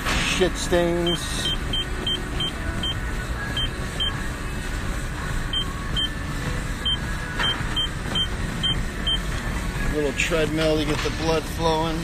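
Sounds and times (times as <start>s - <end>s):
treadmill motor and belt whirring: 0.0s - 12.0s.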